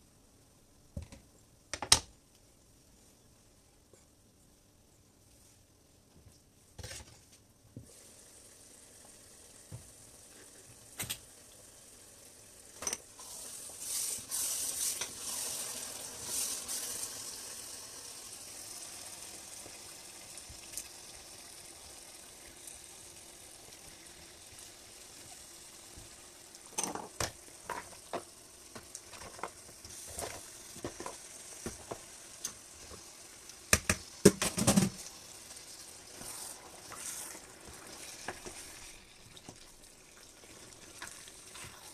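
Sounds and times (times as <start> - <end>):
stew sizzling in a pot: 7.8 - 41.9.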